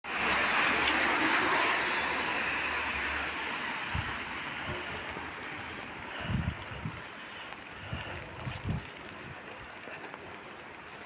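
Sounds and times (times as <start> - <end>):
steady rain falling: 0.1 - 11.0.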